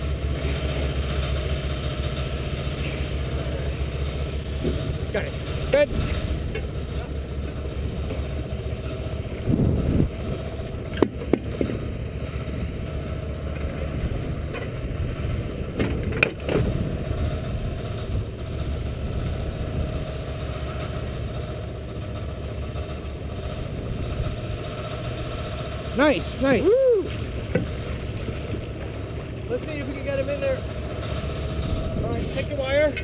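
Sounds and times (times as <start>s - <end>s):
boat engine idling: 0.0s - 33.0s.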